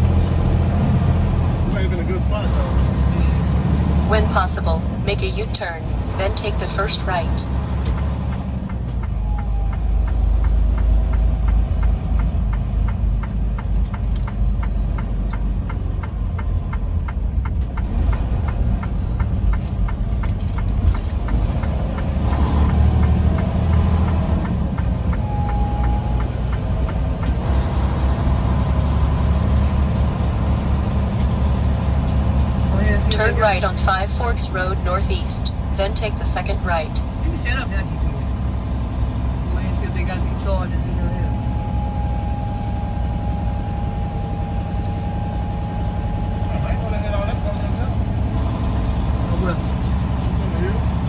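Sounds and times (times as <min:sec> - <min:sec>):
diesel truck engine rumbling: 0:00.0 - 0:51.0.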